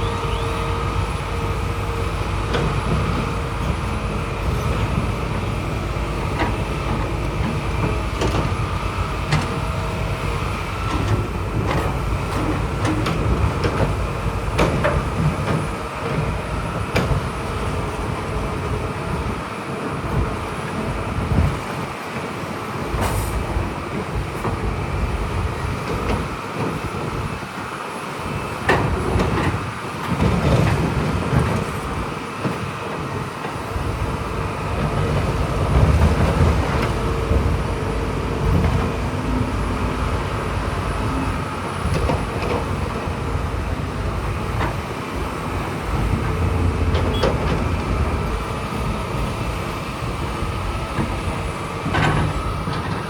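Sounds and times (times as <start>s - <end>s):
diesel engine rumble: 0.0s - 27.5s, 28.2s - 53.0s
machinery clanks and knocks: 1.6s - 19.3s, 20.0s - 27.2s, 28.6s - 33.6s, 34.7s - 53.0s.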